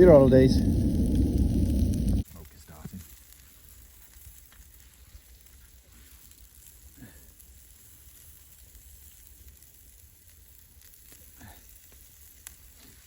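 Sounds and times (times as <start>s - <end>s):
meat sizzling over campfire: 0.0s - 13.0s.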